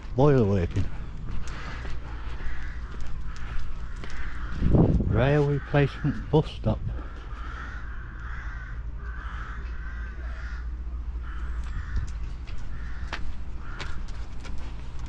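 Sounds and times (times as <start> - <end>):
crows cawing: 0.0 - 15.0
steady low rumble: 0.0 - 15.0.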